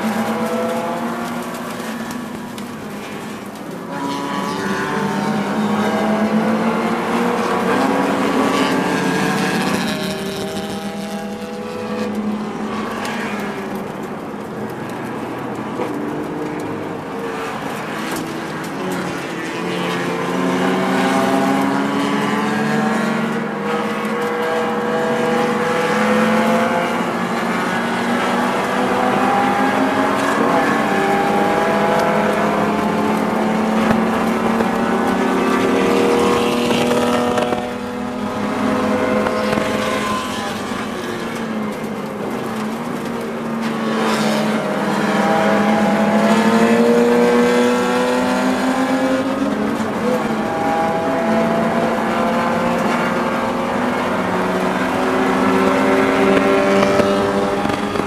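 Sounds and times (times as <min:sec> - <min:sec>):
car engine accelerating through gears: 0:00.0 - 0:13.5, 0:17.4 - 0:58.0.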